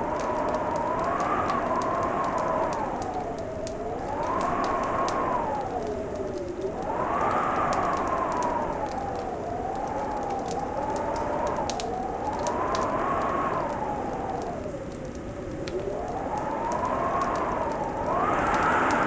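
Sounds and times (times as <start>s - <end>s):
fireplace crackling and popping: 0.0s - 19.0s
wind howling: 0.0s - 19.0s.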